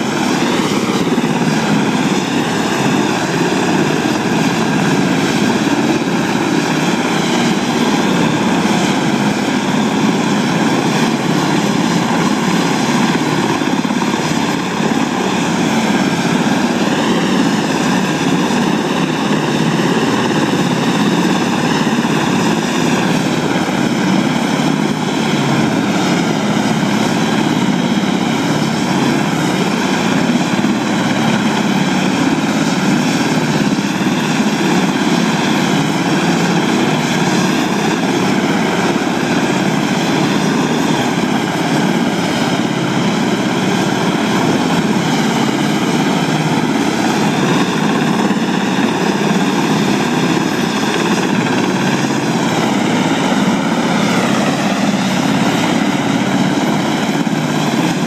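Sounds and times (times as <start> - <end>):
engine whine: 0.0 - 58.0
helicopter rotor and turbine noise: 0.0 - 58.0.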